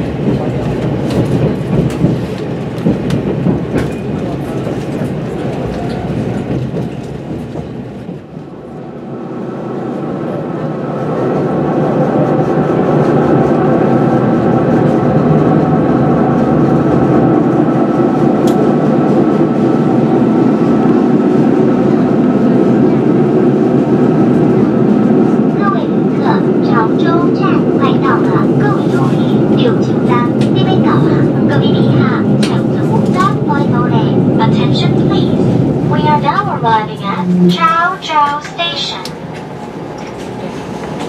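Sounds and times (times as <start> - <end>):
passenger train running: 0.0 - 41.0.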